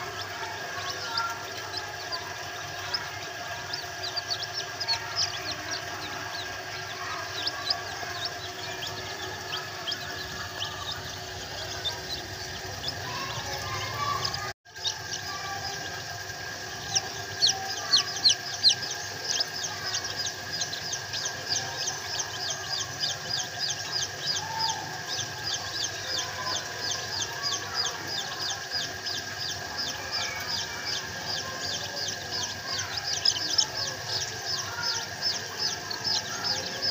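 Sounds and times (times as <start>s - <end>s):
chicks peeping: 0.0s - 36.9s.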